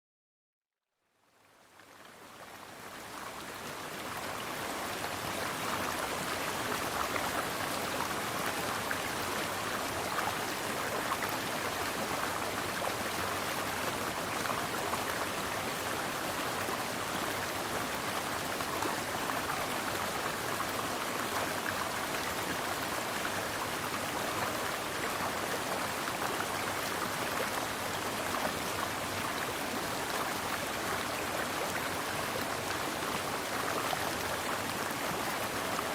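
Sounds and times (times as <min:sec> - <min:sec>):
mountain stream water flowing: 0:01.3 - 0:35.9.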